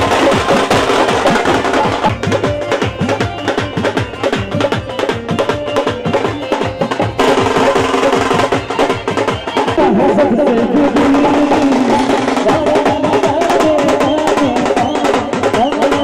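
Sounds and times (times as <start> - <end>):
music with fast dense drumming: 0.0 - 16.0.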